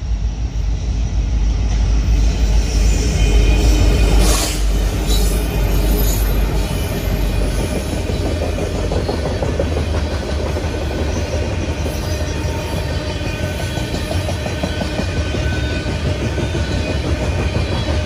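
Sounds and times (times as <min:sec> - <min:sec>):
diesel locomotives passing: 0:00.0 - 0:18.0.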